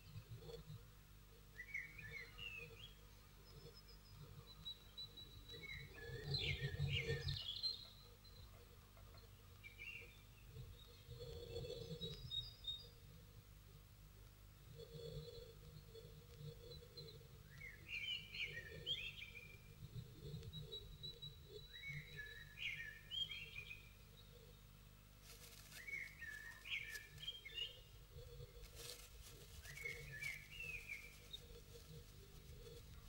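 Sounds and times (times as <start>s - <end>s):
low hum: 0.0s - 33.0s
songbird chirping: 0.0s - 33.0s.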